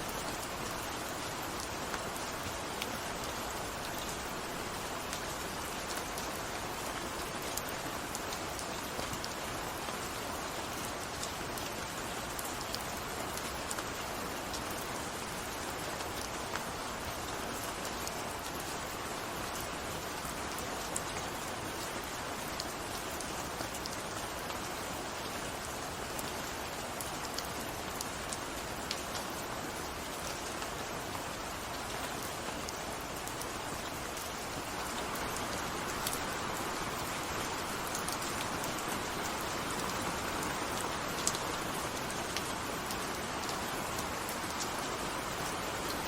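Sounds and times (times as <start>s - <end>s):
rain falling: 0.0s - 46.0s.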